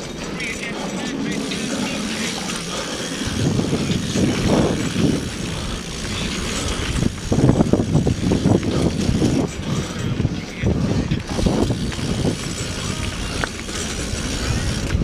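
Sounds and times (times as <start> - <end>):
bike tyres rattling on dirt: 0.0 - 15.0
wind buffeting microphone: 0.0 - 15.0.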